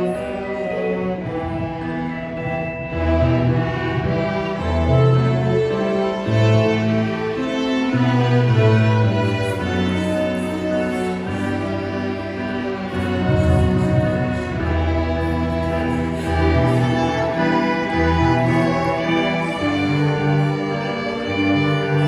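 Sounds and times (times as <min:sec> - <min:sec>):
low cello line: 0:00.0 - 0:22.0
violins holding notes: 0:00.0 - 0:22.0.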